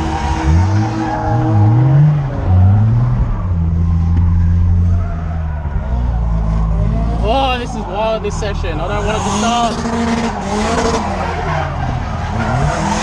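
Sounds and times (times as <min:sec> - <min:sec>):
car engine revving: 0:00.0 - 0:13.0
tyres skidding: 0:00.0 - 0:13.0.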